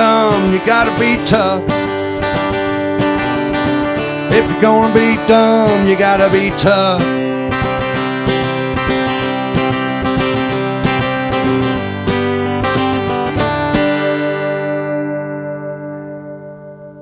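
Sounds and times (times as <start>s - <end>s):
country band with acoustic guitar: 0.0s - 17.0s.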